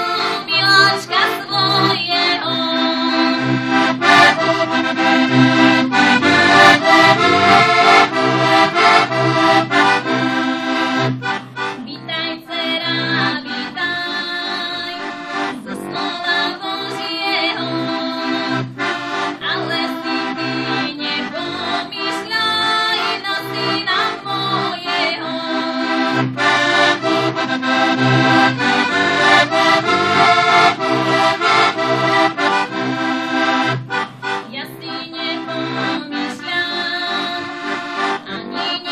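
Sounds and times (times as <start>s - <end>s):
button accordion folk tune: 0.0s - 38.9s.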